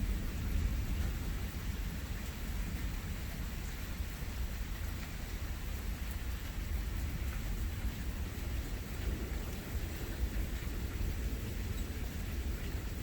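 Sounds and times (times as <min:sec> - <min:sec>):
low rumble of thunder: 0:00.0 - 0:13.0
steady rain falling: 0:00.0 - 0:13.0.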